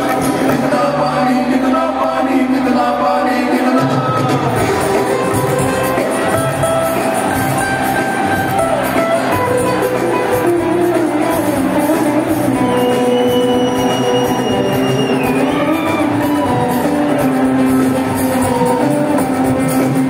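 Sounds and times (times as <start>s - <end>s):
rock band playing: 0.0s - 1.7s, 3.5s - 20.0s.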